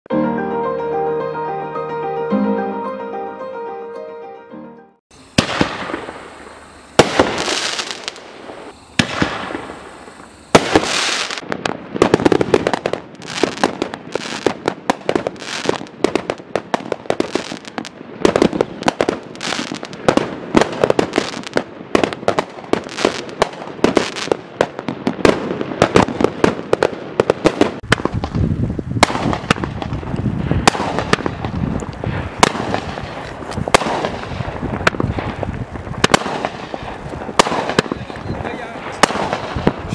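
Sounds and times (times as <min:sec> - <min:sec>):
firework hiss: 0:05.1 - 0:24.6, 0:25.3 - 0:39.9
firework barrage of bursts: 0:05.1 - 0:39.9
firework shots: 0:05.1 - 0:39.9.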